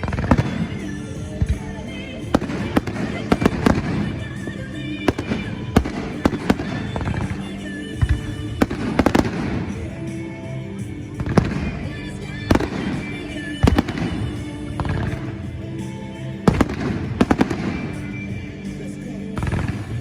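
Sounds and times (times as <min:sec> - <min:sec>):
fireworks banging: 0:00.0 - 0:20.0
music playing: 0:00.0 - 0:20.0.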